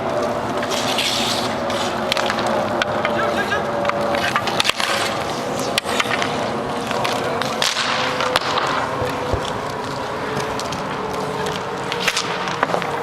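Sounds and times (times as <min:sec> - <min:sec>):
hockey sticks clacking: 0:00.0 - 0:13.0
skates scraping on rink: 0:00.0 - 0:13.0
puck striking boards: 0:00.6 - 0:13.0.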